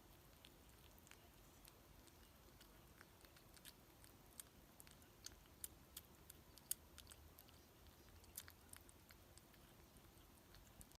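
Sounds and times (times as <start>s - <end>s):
kitten chewing: 0.0s - 10.9s.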